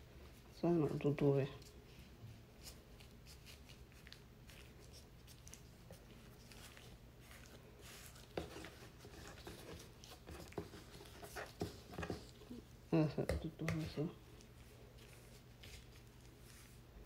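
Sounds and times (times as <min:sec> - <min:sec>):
dough rustling and squishing: 0:00.0 - 0:17.0
low steady hum: 0:00.0 - 0:17.0.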